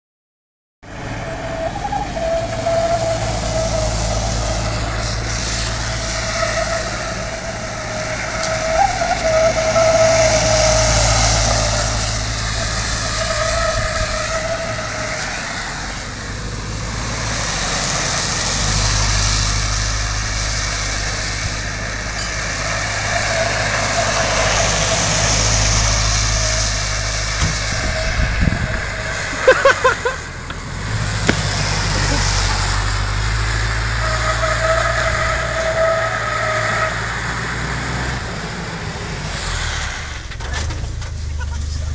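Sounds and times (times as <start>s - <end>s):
off-road vehicle engine running: 0.8s - 41.9s.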